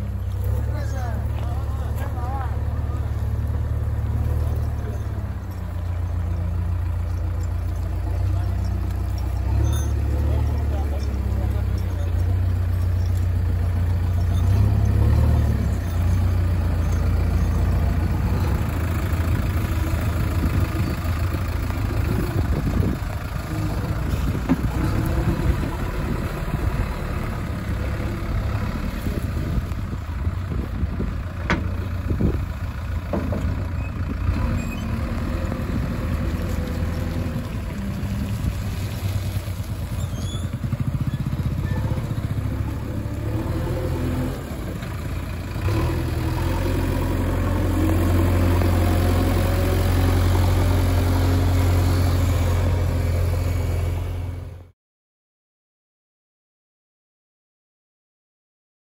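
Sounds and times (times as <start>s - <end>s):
diesel engine running: 0.0s - 54.7s.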